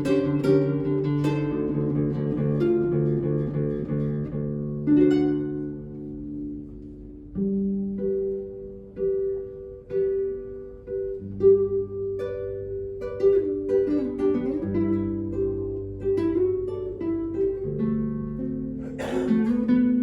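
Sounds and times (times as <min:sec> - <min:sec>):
classical guitar melody: 0:00.0 - 0:20.0.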